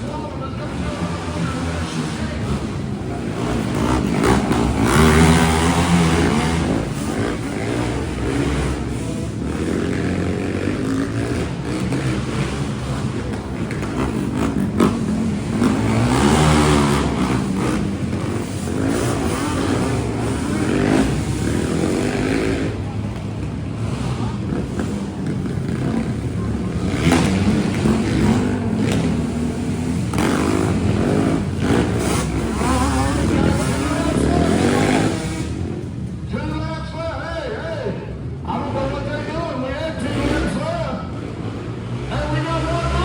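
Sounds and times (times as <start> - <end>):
monster truck engines revving: 0.0 - 43.0.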